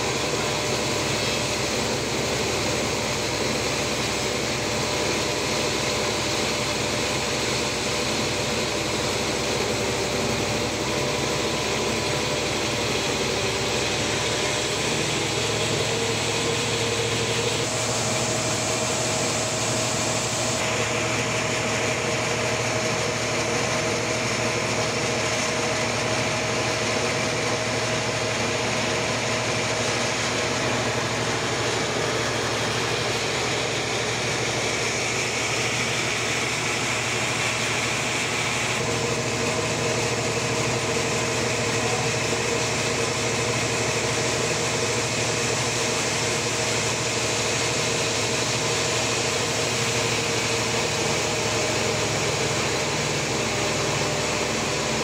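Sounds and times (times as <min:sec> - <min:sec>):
sawmill drone with whine: 0:00.0 - 0:55.0.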